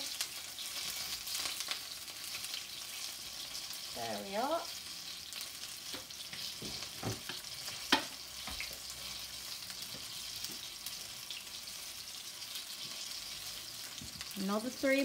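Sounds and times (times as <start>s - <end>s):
fritters sizzling in oil: 0.0s - 15.0s.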